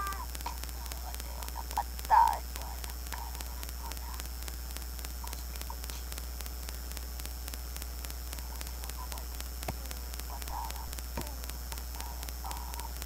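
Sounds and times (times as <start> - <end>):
faint static ticking: 0.0 - 13.0
low electrical hum with hiss: 0.0 - 13.0
sharp clicks: 0.0 - 13.0.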